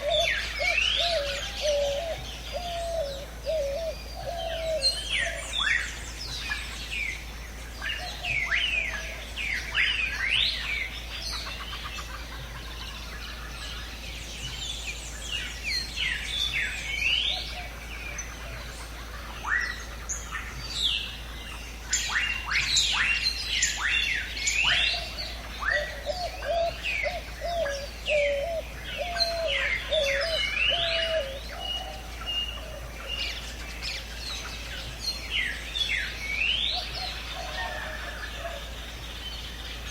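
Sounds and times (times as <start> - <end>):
low bird call: 0.0 - 7.3, 7.9 - 39.9
birds chirping and whistling: 0.0 - 39.9.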